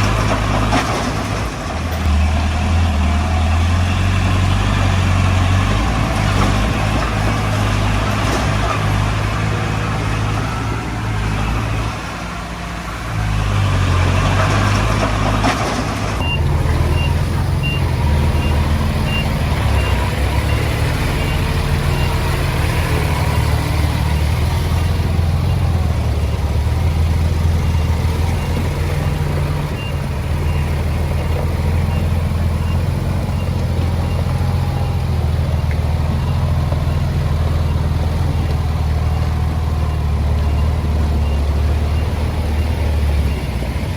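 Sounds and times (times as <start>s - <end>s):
heavy diesel machinery running: 0.0s - 43.9s
reversing alarm beeping: 2.0s - 15.4s, 16.2s - 43.9s.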